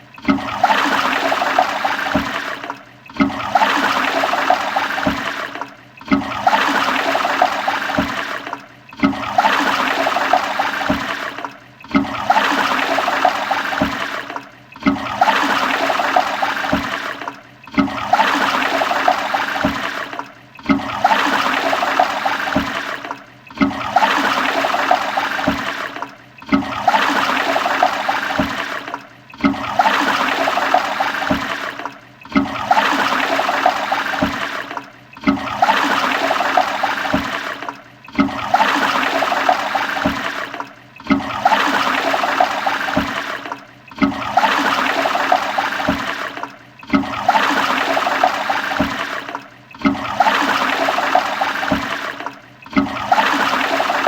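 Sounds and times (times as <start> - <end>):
toilet flushing: 0.0 - 54.0.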